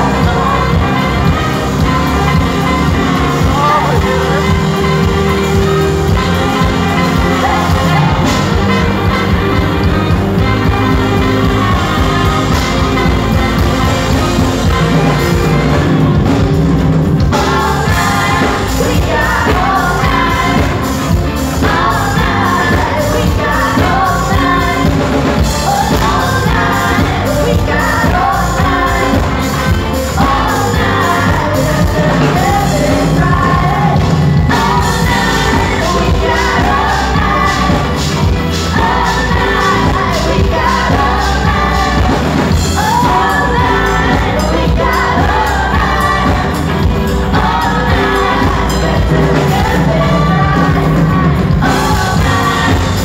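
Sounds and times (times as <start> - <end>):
woman singing: 0.0 - 15.9, 17.3 - 53.0
live pop-rock band playing: 0.0 - 53.0.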